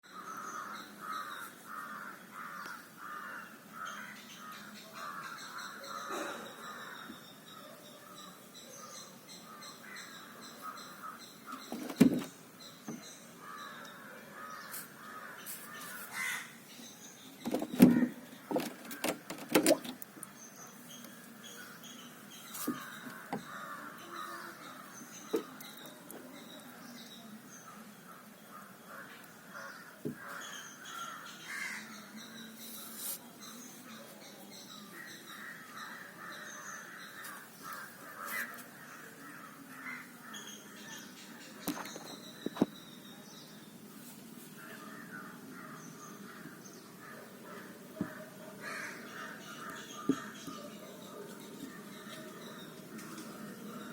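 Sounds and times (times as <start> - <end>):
harsh bird calls: 0.0 - 43.9, 44.5 - 53.9.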